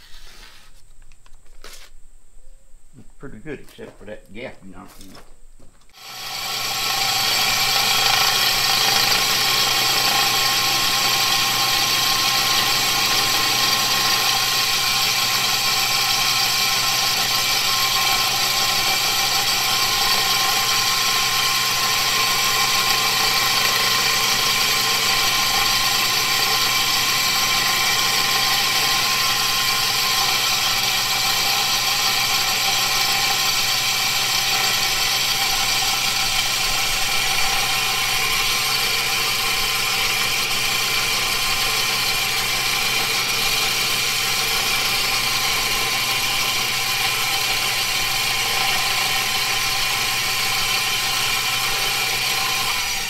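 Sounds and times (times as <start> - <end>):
blade grinding on wheel: 5.9 - 53.0
electric motor running: 5.9 - 53.0.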